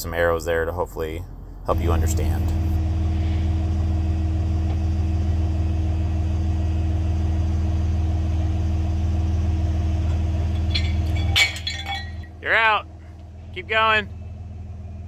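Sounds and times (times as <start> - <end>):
forklift engine humming: 0.0 - 15.0.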